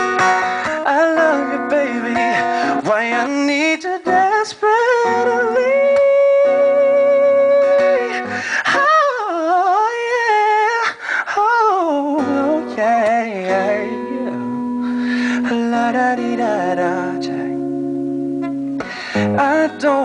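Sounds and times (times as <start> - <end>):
man singing: 0.0 - 17.9, 18.8 - 20.0
acoustic guitar: 0.0 - 20.0.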